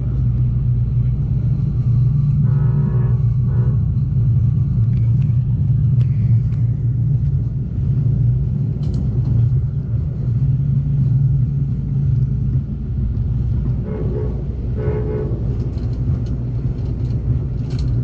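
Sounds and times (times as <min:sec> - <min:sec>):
passenger train rumbling: 0:00.0 - 0:18.0.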